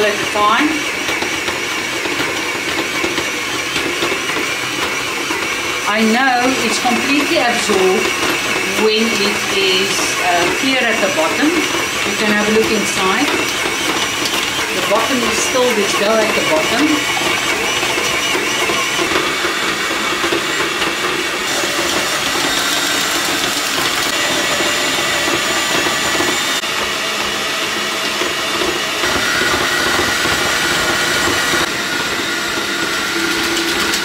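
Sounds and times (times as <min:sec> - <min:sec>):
stand mixer motor kneading dough: 0:00.0 - 0:34.0.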